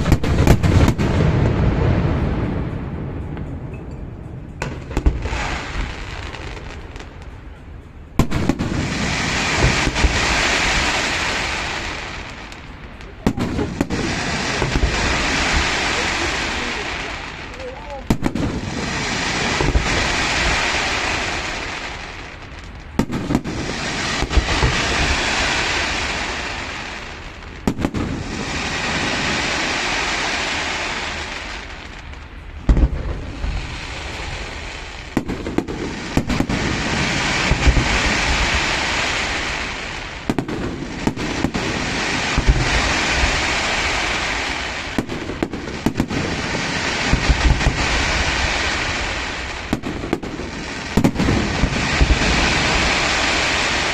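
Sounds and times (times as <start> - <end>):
fireworks hiss: 0.0 - 2.9, 4.6 - 53.9
fireworks bangs and booms: 0.0 - 53.9.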